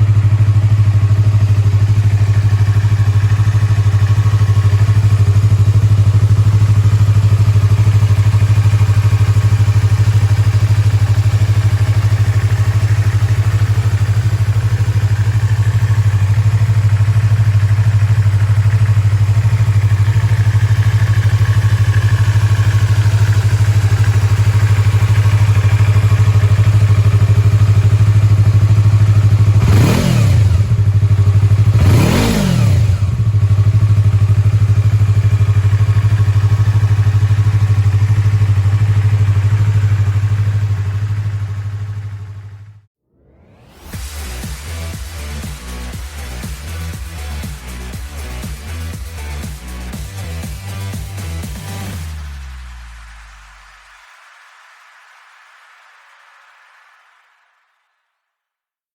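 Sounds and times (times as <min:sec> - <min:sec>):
motorcycle engine idling and revving: 0:00.0 - 0:43.0, 0:43.7 - 0:53.8.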